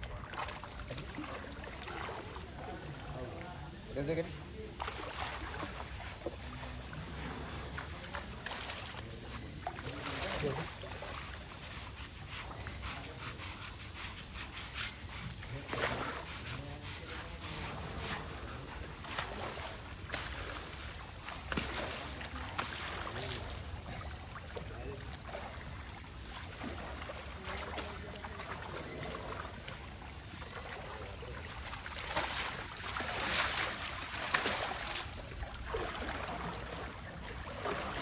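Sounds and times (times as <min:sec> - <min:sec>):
water splashing and scrubbing: 0:00.0 - 0:38.0.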